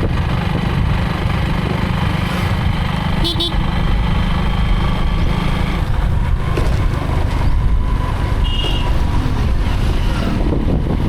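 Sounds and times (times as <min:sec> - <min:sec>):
wind noise on microphone: 0:00.0 - 0:04.0, 0:04.8 - 0:11.0
motorcycle engine rumble: 0:00.0 - 0:11.0.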